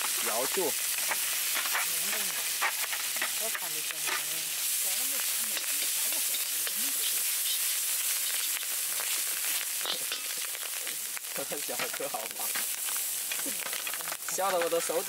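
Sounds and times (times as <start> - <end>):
food sizzling in hot oil: 0.0 - 15.0
spatula stirring in wok: 0.0 - 15.0.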